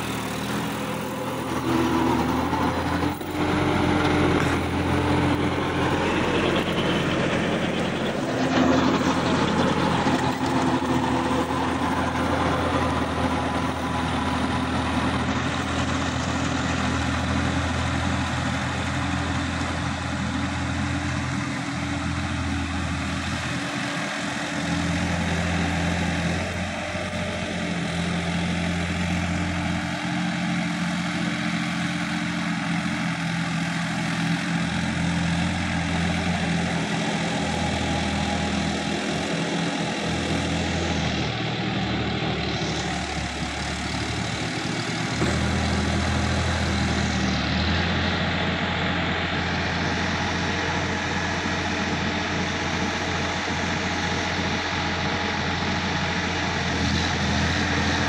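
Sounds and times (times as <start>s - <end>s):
diesel tractor engine under load: 0.0s - 58.0s
rotavator churning dry soil: 0.0s - 58.0s.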